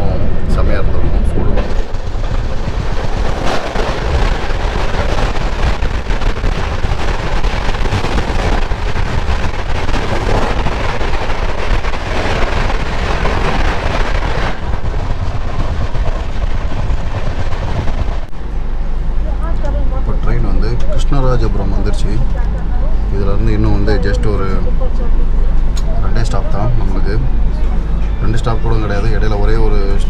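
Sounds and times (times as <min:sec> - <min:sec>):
train running at speed: 0:00.0 - 0:30.0.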